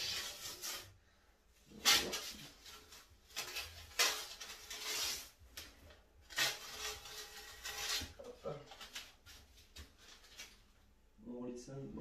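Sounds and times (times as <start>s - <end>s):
masking tape peeling: 0.0s - 1.0s, 1.7s - 10.8s.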